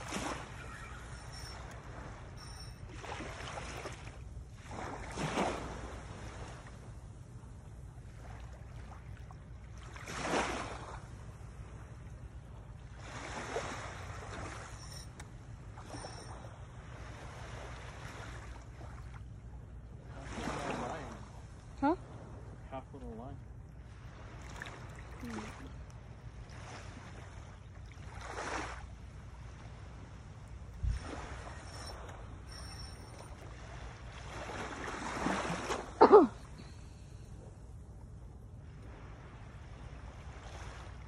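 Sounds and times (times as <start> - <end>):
small waves washing on shore: 0.0 - 41.0.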